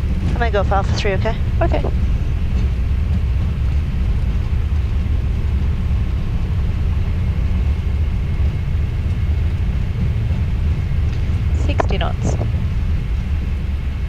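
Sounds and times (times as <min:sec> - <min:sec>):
airliner rolling rumble: 0:00.0 - 0:14.0.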